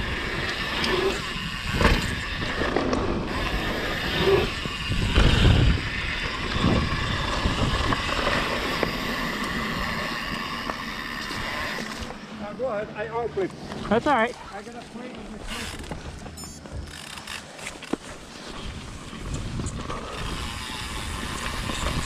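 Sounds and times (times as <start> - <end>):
rush of wind and tyres: 0.0 - 14.6, 15.2 - 22.0.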